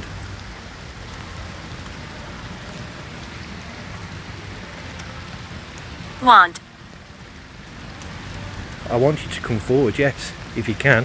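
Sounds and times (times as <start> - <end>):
torrential rain hissing: 0.0 - 11.0.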